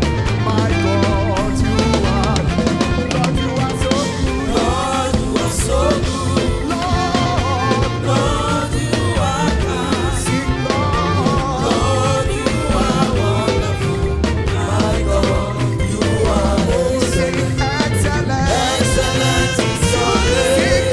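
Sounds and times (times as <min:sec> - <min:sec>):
band with drums and bass: 0:00.0 - 0:20.9
voices singing gospel: 0:00.0 - 0:20.9.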